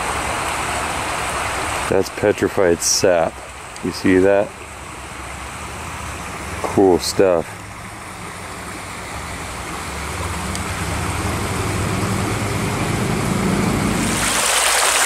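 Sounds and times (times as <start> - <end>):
creek water running: 0.0 - 15.0
vehicle passing on road: 0.0 - 15.0.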